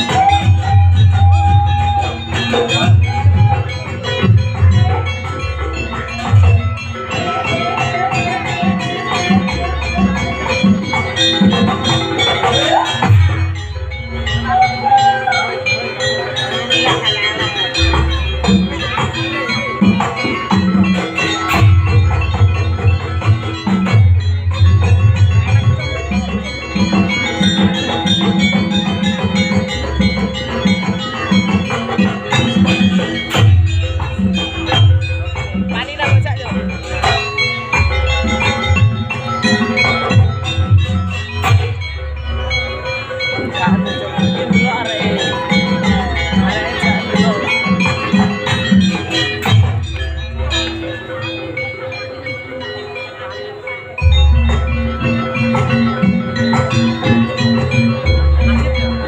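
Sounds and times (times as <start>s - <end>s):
drum strokes: 0.0s - 52.0s
gong and metallophone tones: 0.0s - 59.0s
ringing tuned metal percussion: 0.0s - 59.0s
wavering melody line: 0.0s - 59.0s.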